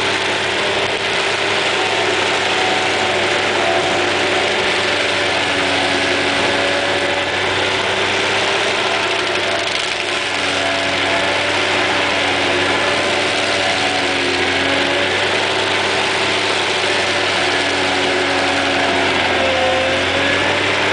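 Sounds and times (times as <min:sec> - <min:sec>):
stump grinder engine running: 0:00.0 - 0:20.9.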